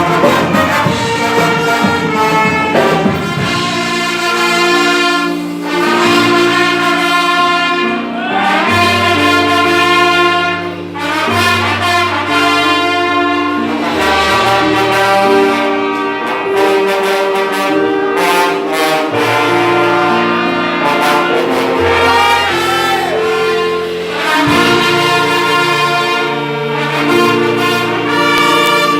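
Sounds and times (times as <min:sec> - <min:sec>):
orchestra with brass playing: 0:00.0 - 0:28.9.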